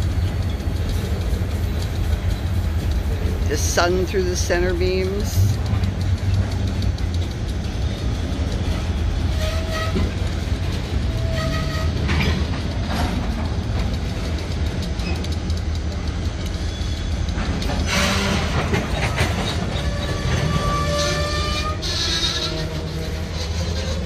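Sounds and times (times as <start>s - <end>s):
boxcar wheels clicking and clanking: 0.0s - 24.0s
diesel locomotive rumble: 0.0s - 24.0s.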